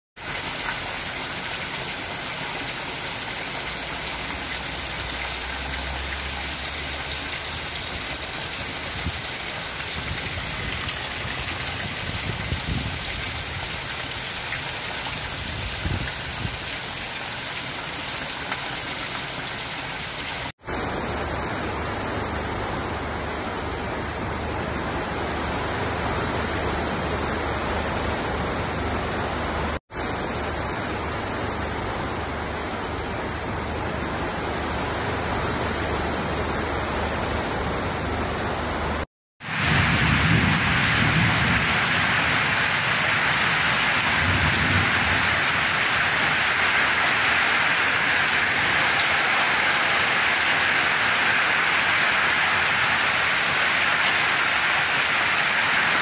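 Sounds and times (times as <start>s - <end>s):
heavy rain on a metal roof: 0.2s - 56.0s
rushing river: 0.2s - 56.0s.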